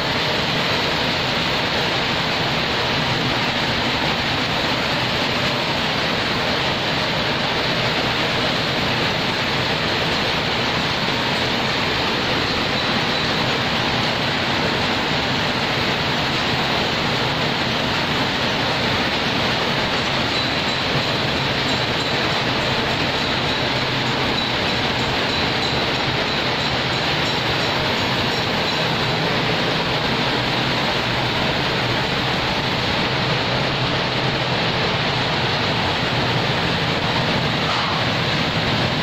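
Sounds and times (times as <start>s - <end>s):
power looms clattering: 0.0s - 39.0s.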